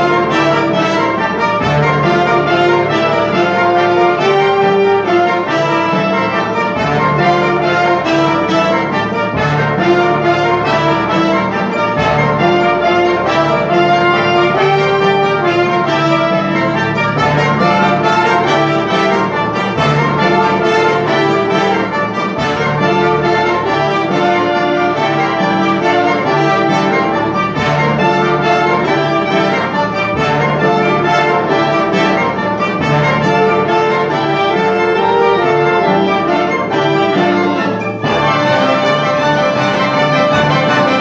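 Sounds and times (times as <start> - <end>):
live ensemble music: 0.0 - 41.0
trumpets and trombones: 0.0 - 41.0.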